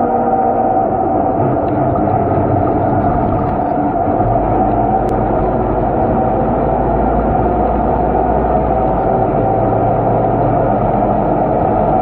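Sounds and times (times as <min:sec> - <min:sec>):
bus engine whine and drone: 0:00.0 - 0:12.0.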